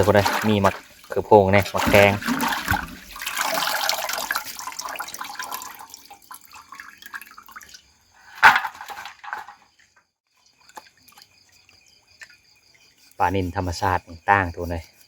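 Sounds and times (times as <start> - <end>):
water splashing and dripping: 0.0 - 9.5, 10.3 - 13.1
crickets chirping: 0.0 - 15.0.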